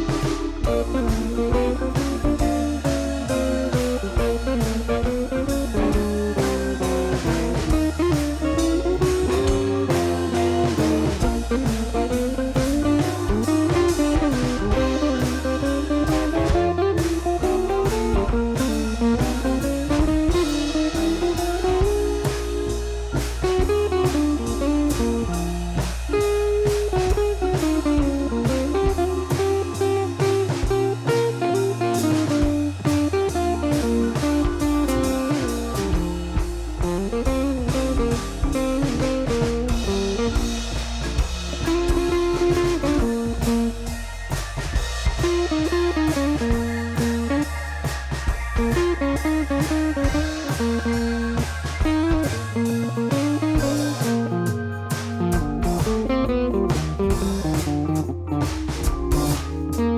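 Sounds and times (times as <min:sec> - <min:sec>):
bass: 0:00.0 - 0:59.9
blues guitar melody: 0:00.0 - 0:59.9
drums: 0:00.0 - 0:59.9.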